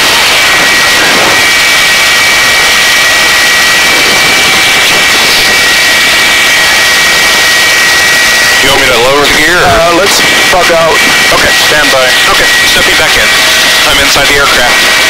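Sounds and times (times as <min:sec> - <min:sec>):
helicopter turbine engine hovering: 0:00.0 - 0:15.0.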